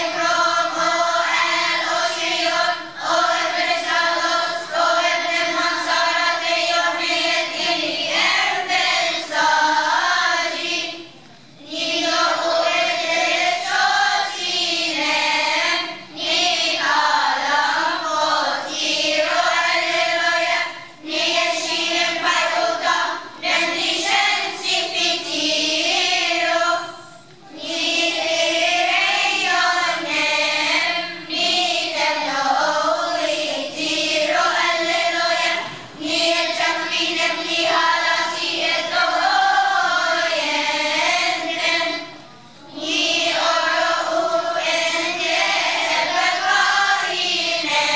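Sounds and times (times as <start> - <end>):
children's choir singing: 0.0 - 47.9.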